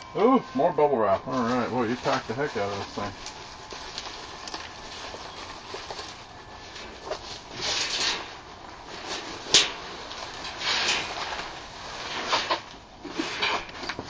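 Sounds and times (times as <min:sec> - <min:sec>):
bubble wrap rustling: 0:00.0 - 0:14.0
cardboard rustling: 0:00.6 - 0:14.0.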